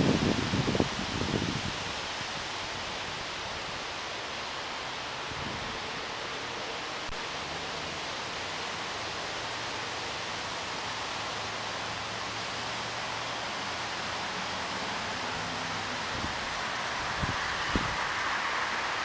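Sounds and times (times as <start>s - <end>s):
breeze hissing through leaves: 0.0s - 19.0s
leaves rustling: 0.0s - 19.0s.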